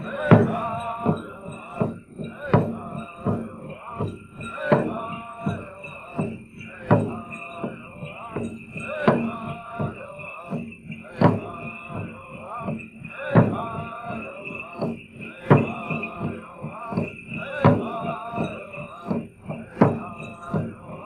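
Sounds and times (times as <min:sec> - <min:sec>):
big drum beating: 0:00.0 - 0:21.0
drummers singing in chorus: 0:00.0 - 0:21.0.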